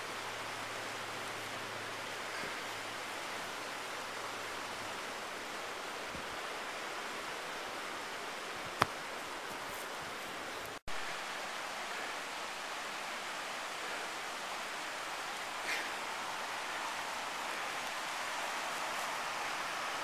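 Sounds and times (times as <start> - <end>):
steady outdoor rushing noise: 0.0 - 20.0.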